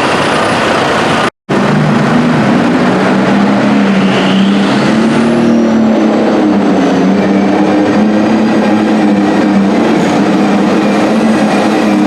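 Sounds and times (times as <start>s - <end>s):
diesel engine at high revs: 0.0s - 12.0s.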